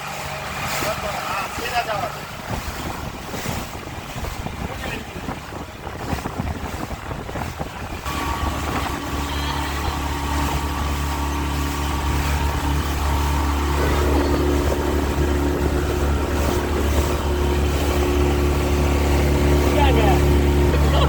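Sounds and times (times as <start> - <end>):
boat motor droning: 0.0 - 21.0
water noise: 0.0 - 21.0
wind: 0.0 - 21.0.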